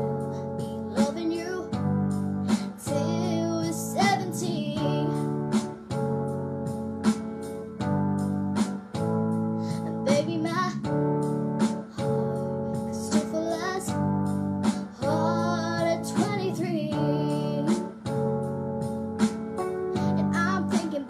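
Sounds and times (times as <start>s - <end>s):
backing track chords: 0.0s - 21.0s
girl singing a pop ballad: 0.0s - 21.0s.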